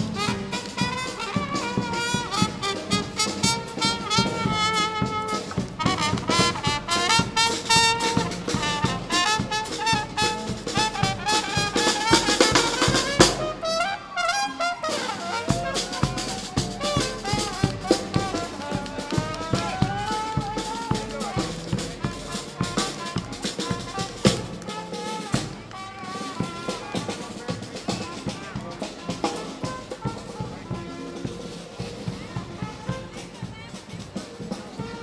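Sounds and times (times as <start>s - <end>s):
horns playing melody: 0.0s - 35.0s
steady drum beat: 0.0s - 35.0s.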